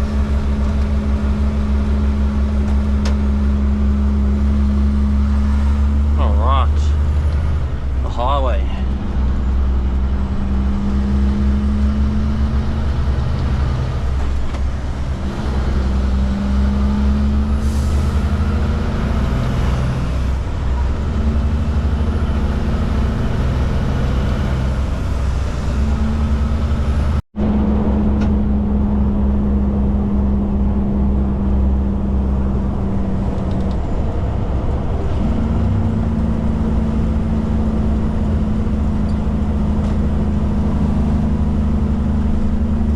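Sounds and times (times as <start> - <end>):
truck diesel engine drone: 0.0 - 42.9.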